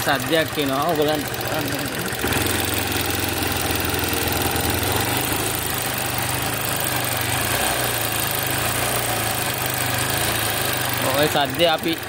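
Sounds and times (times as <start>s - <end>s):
motorcycle engine idling: 0.0s - 12.0s
valve gear ticking: 0.0s - 12.0s.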